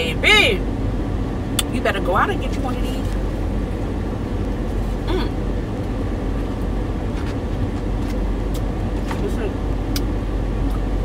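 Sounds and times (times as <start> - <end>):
car air conditioning blowing: 0.0 - 11.0.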